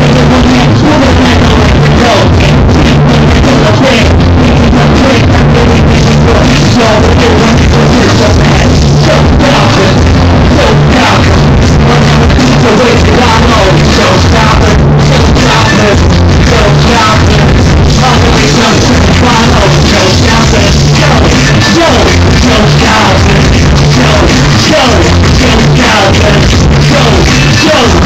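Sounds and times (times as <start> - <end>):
backing track with heavy bass: 0.0 - 28.0
person rapping: 0.0 - 28.0.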